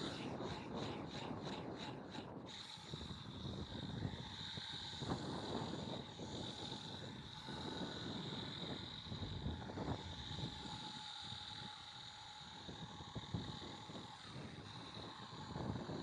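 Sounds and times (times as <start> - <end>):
steady high-pitched hum: 0.0 - 16.0
wind buffeting microphone: 0.0 - 16.0.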